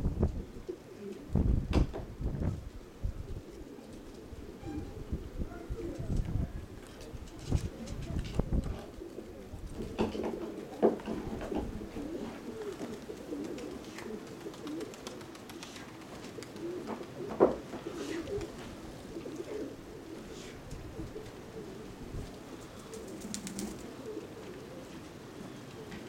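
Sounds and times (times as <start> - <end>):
pigeons cooing: 0.0 - 1.4, 2.7 - 26.0.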